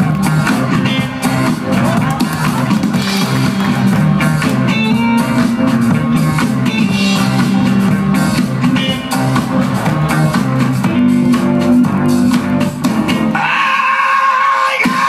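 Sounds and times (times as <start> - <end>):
loud guitar and drum music: 0.0 - 15.0.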